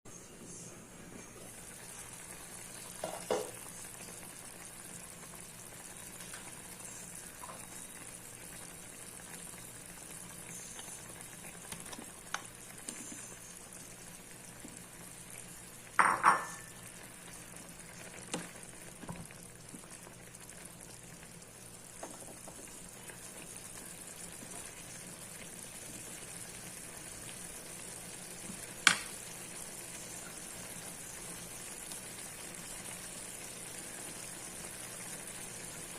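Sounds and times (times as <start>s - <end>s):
chicken sizzling in a pan: 1.3s - 35.9s.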